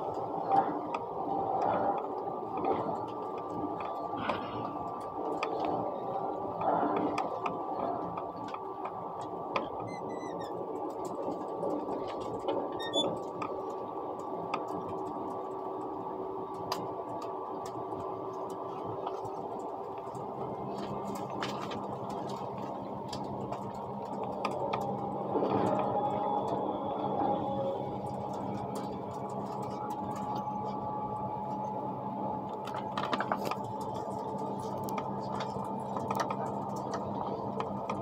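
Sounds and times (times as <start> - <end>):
faint constant whine: 0.0 - 38.0.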